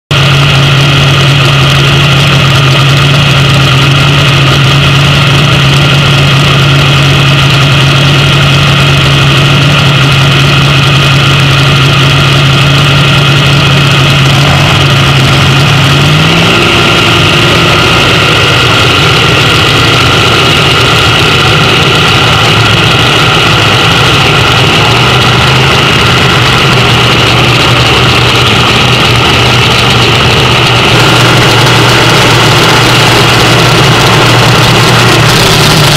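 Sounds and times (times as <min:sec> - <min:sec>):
dragster engine idling loudly: 0:00.1 - 0:35.9.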